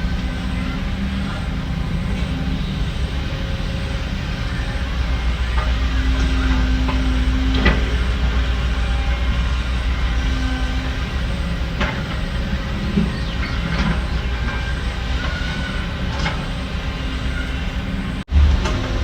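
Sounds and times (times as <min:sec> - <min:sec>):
diesel machinery engine rumble: 0:00.0 - 0:19.0.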